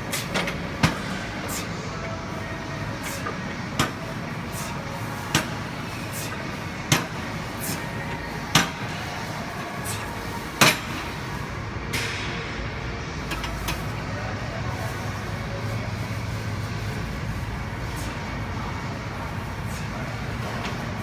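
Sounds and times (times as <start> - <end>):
gym background noise: 0.0 - 21.0.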